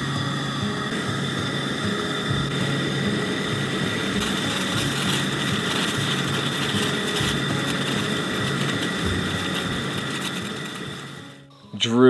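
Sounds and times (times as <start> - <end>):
gas burner flame hissing: 0.0 - 11.5.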